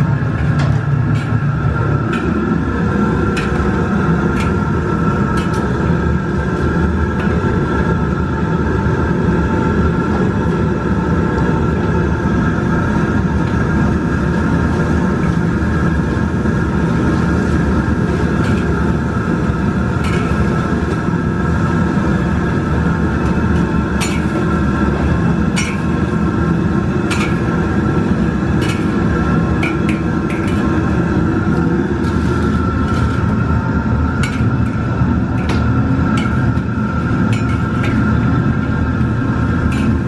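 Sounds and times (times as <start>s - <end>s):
food deep-frying in bubbling oil: 0.0s - 40.0s
low roar of kitchen noise: 0.0s - 40.0s.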